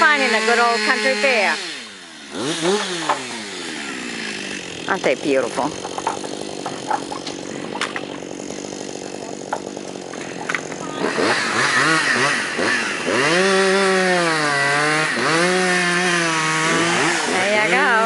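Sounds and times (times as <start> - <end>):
chainsaw cutting a log: 0.0 - 18.0.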